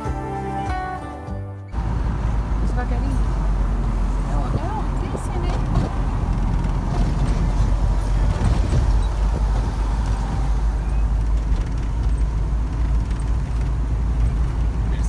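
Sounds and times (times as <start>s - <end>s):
motorhome engine and road rumble: 0.0s - 15.0s.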